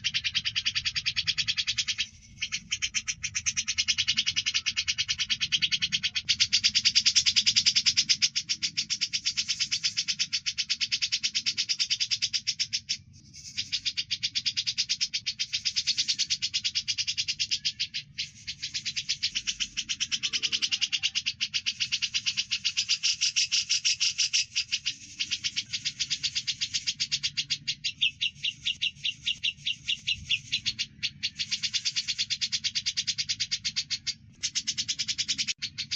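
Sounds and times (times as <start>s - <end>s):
songbird chirping: 0.0s - 35.9s.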